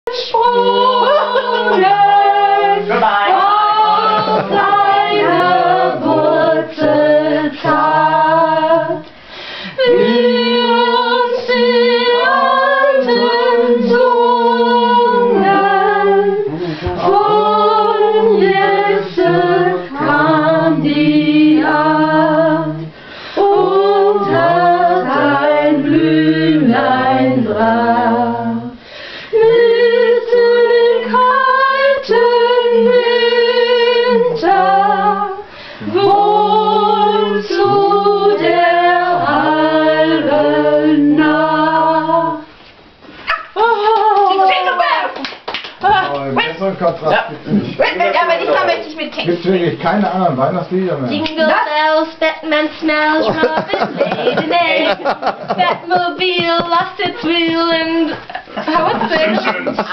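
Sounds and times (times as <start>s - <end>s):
choir singing a cappella: 0.1s - 42.6s, 51.2s - 59.9s.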